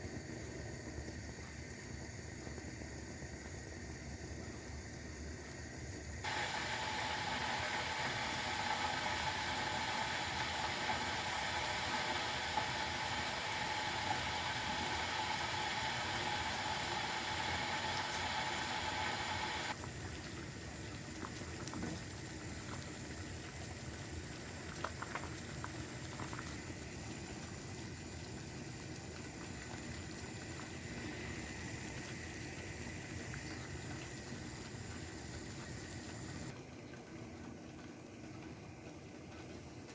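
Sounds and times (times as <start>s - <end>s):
liquid boiling in a pot: 0.0s - 39.9s.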